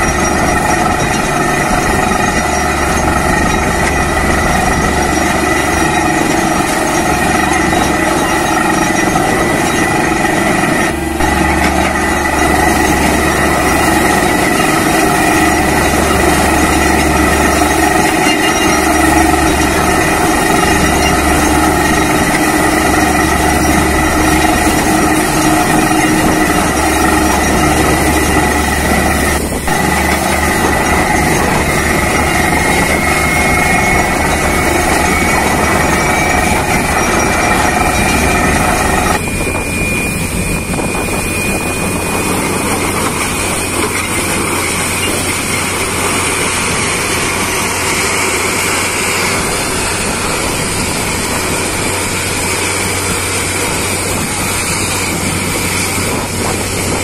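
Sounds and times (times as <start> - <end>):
drilling rig engine hum: 0.0 - 57.0
noisy rushing: 0.0 - 57.0
water gushing: 0.0 - 57.0.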